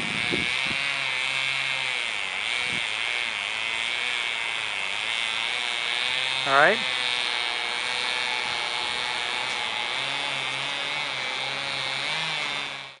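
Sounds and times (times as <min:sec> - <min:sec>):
chainsaw sawing logs: 0:00.0 - 0:13.0.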